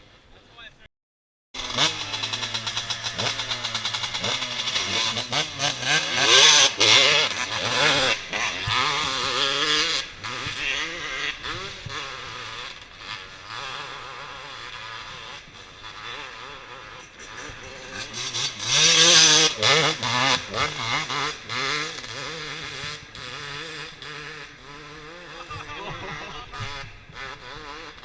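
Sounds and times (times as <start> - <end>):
dirt bike engine revving: 1.6 - 28.0.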